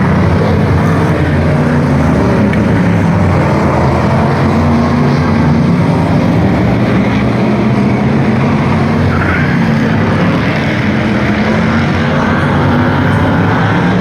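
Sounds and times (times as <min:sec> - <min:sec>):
stock car engines racing: 0:00.0 - 0:14.0.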